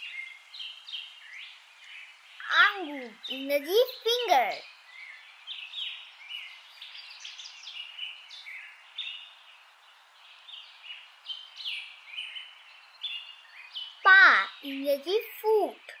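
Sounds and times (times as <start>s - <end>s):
birds chirping and singing: 0.0s - 16.0s
faint hiss: 0.0s - 16.0s.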